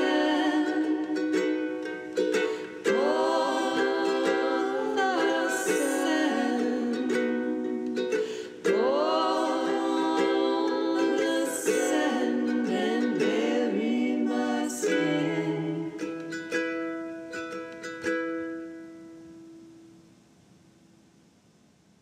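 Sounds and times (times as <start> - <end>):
plucked ukulele music: 0.0 - 20.1.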